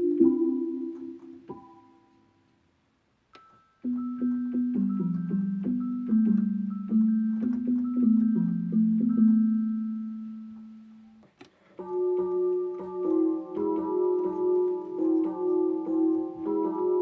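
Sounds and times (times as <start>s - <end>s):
electronic keyboard notes: 0.0s - 2.5s, 3.4s - 17.0s.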